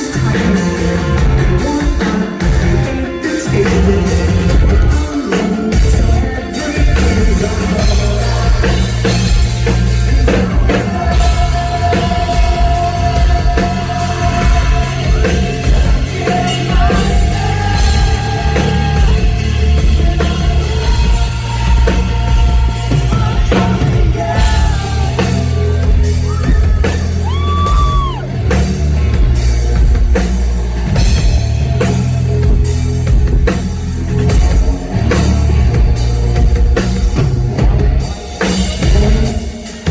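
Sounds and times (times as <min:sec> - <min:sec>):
man singing: 0:00.0 - 0:28.5, 0:34.5 - 0:39.9
bass guitar: 0:00.0 - 0:39.9
drum kit beat: 0:00.0 - 0:39.9
electric guitars: 0:00.0 - 0:39.9
rock band playing live: 0:00.0 - 0:39.9.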